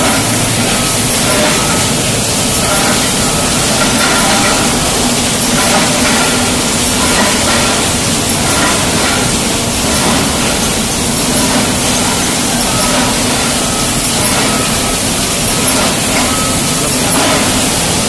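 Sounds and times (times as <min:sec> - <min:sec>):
cans moving along conveyors: 0:00.0 - 0:18.0
machinery working: 0:00.0 - 0:18.0.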